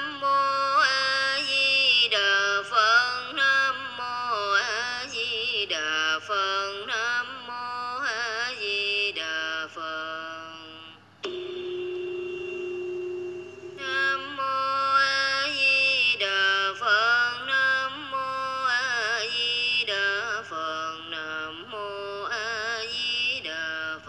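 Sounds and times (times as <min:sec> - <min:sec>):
woman chanting melodically: 0:00.0 - 0:11.0, 0:13.8 - 0:24.0.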